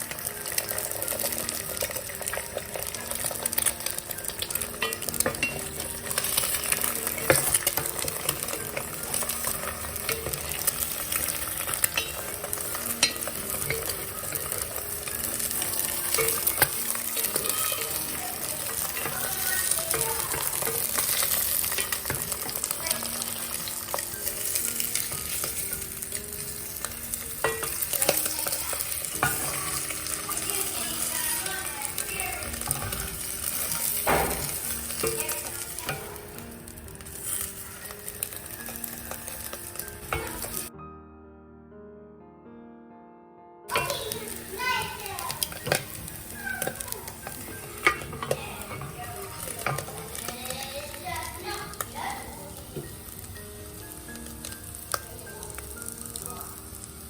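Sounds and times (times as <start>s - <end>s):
food sizzling in a pan: 0.0s - 40.7s, 43.7s - 57.0s.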